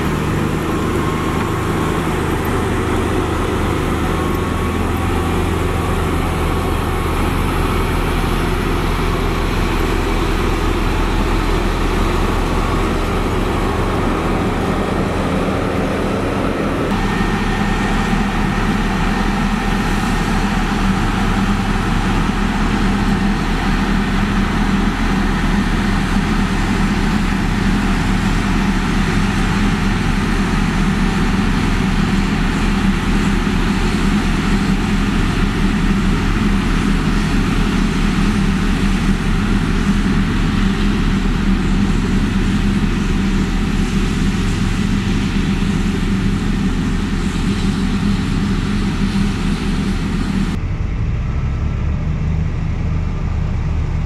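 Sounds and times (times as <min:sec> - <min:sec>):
heavy diesel engines running: 0:00.0 - 0:54.0
road roller engine: 0:00.0 - 0:54.0.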